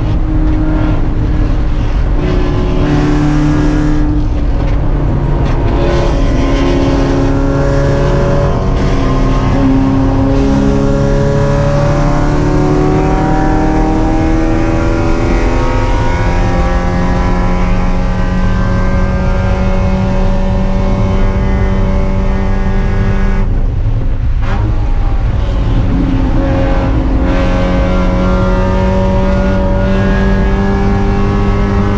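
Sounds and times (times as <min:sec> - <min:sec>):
race car engine under power: 0:00.0 - 0:31.9.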